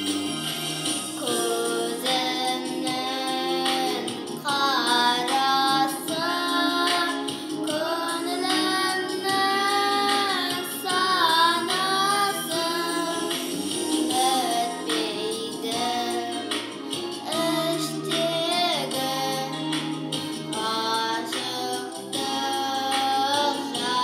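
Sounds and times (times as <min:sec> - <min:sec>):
instrumental accompaniment: 0:00.0 - 0:24.0
girl singing: 0:01.2 - 0:24.0.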